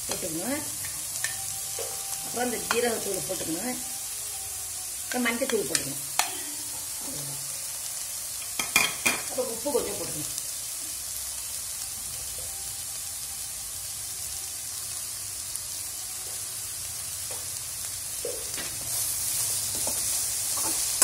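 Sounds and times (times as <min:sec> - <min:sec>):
vegetables sizzling in frying pan: 0:00.0 - 0:21.0.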